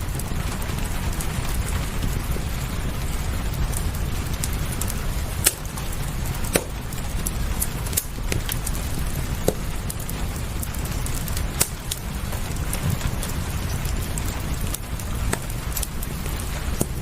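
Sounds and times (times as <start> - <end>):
low rumble: 0.0 - 17.0
rain hiss: 0.0 - 17.0
wood fire crackling and popping: 0.0 - 17.0.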